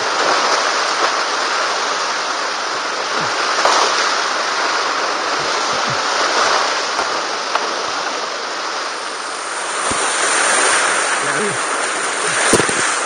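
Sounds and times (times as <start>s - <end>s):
faint water splashes: 0.0s - 13.0s
whitewater rapids rushing: 0.0s - 13.0s.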